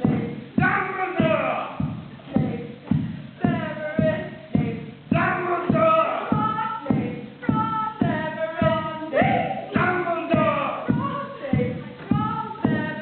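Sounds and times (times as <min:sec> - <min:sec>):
people singing together: 0:00.0 - 0:13.0
thumping beat: 0:00.0 - 0:13.0.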